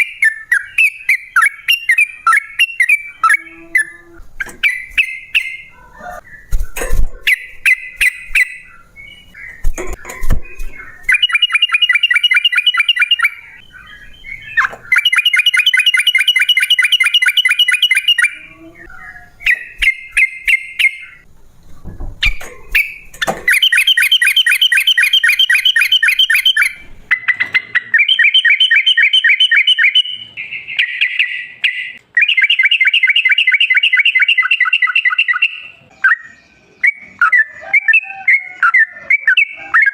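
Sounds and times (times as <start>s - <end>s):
bulbul singing chattering rolls: 0.0s - 21.3s, 22.2s - 39.9s.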